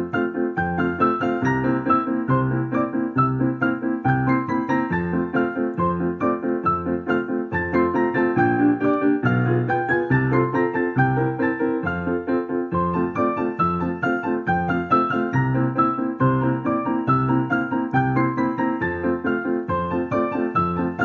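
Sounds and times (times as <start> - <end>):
digital piano duet: 0.0 - 21.0.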